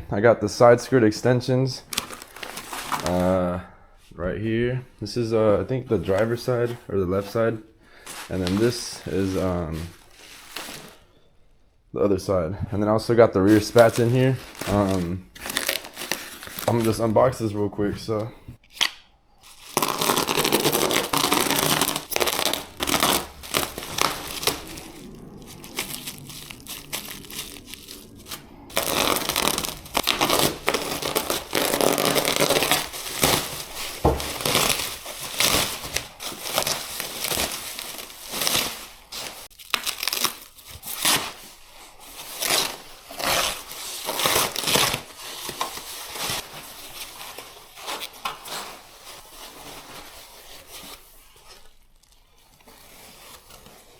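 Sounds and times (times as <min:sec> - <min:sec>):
packaging tearing and crinkling: 0:01.8 - 0:03.4, 0:08.0 - 0:11.1, 0:13.5 - 0:17.1, 0:18.6 - 0:53.9.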